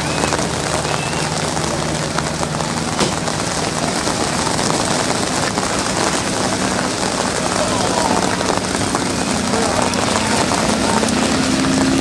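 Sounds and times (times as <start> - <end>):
aircraft flying over: 0.0 - 12.0.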